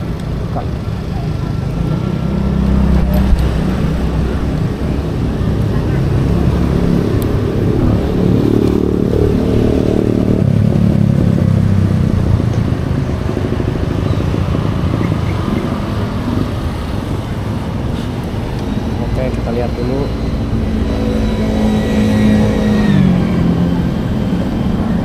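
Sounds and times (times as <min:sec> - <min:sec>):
scooter engine running: 0:00.0 - 0:25.0.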